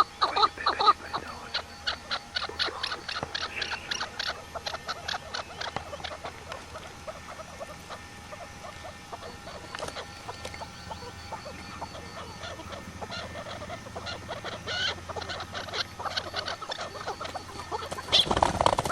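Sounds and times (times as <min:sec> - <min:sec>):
small animals squeaking: 0:00.0 - 0:18.9.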